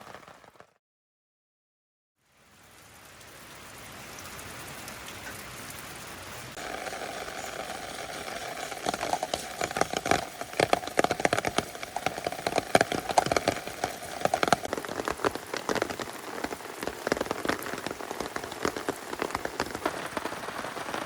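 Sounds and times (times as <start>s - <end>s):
steady rain falling: 0.0s - 0.7s, 2.2s - 21.0s
heavy raindrops tapping: 0.0s - 0.8s, 4.2s - 21.0s.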